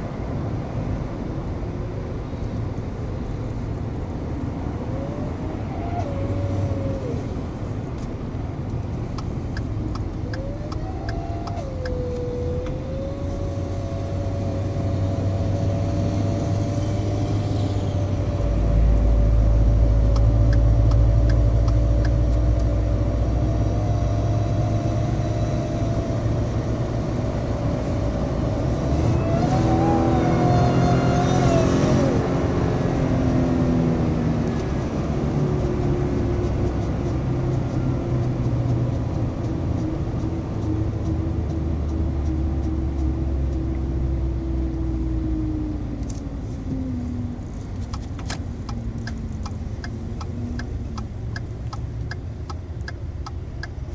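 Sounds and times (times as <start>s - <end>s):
truck engine rumble: 0.0s - 53.9s.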